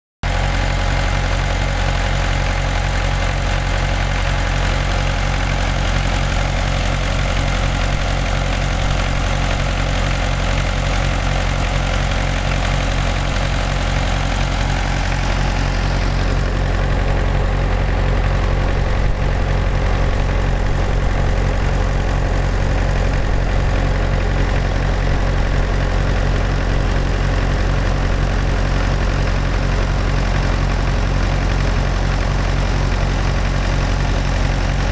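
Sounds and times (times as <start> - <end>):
tractor engine idling: 0.2 - 34.9.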